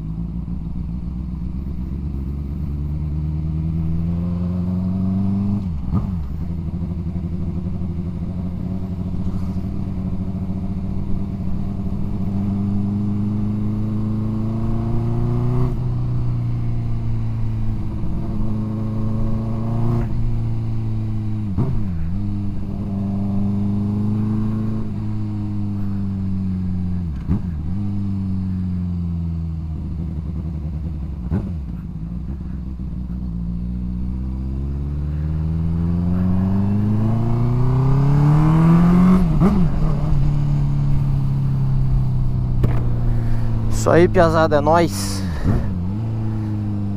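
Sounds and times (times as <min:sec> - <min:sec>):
motorcycle engine shifting gears: 0:00.1 - 0:46.9.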